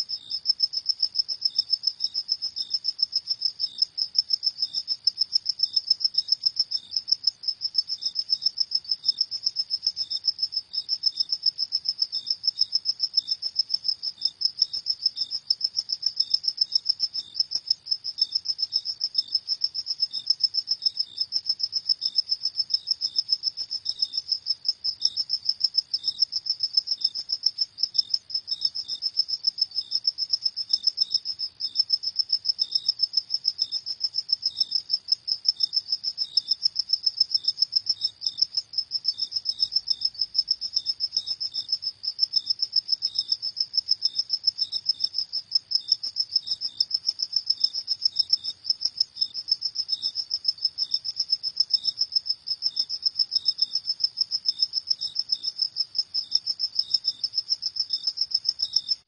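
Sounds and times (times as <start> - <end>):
cricket trilling: 0.0 - 59.0
faint lower cricket chirps: 0.0 - 59.0.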